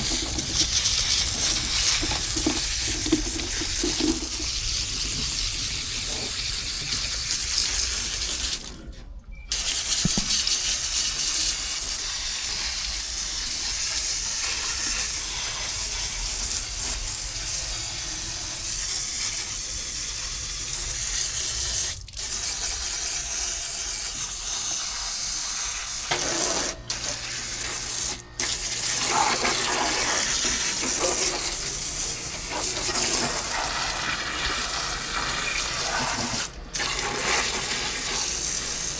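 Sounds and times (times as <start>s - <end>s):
water spraying from hose: 0.0s - 8.7s, 9.5s - 38.9s.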